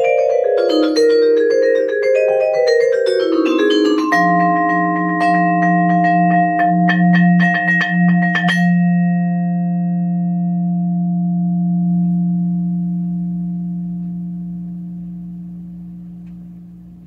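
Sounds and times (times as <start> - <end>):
vibraphone chord ringing: 0.0 - 17.0.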